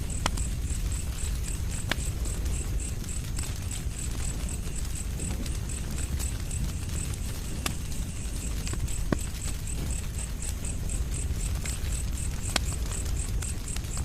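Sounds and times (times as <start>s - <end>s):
cricket chirping: 0.0s - 14.0s
wood fire crackling: 0.0s - 14.0s.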